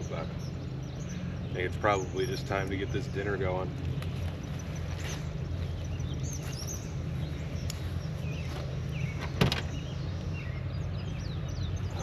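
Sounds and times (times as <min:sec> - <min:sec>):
birds chirping: 0:00.0 - 0:12.0
low hum: 0:00.0 - 0:12.0.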